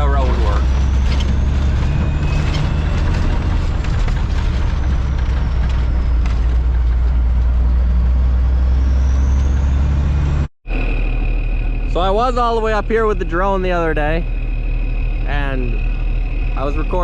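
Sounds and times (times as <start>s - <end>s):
diesel truck engine drone: 0.0s - 17.0s.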